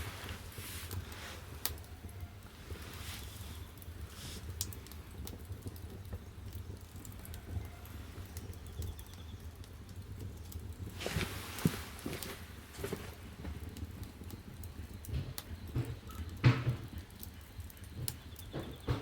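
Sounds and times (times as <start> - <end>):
firewood crackling and popping: 0.0 - 19.0
low rumble of fire: 0.0 - 19.0.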